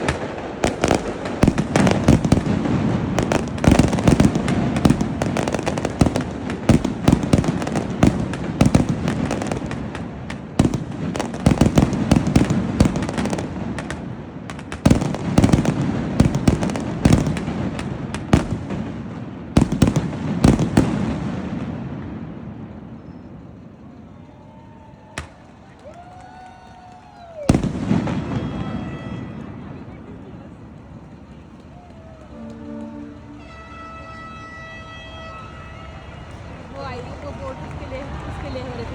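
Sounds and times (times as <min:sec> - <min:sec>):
fireworks bangs and crackles: 0:00.0 - 0:38.9
fireworks rumble: 0:00.0 - 0:38.9.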